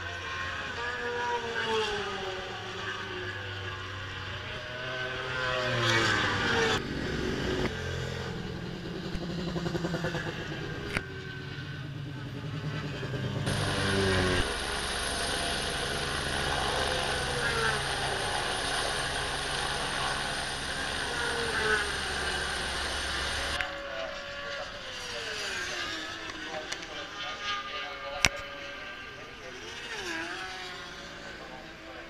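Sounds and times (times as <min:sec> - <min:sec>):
motorcycles passing at speed: 0:00.0 - 0:26.4, 0:28.0 - 0:32.0.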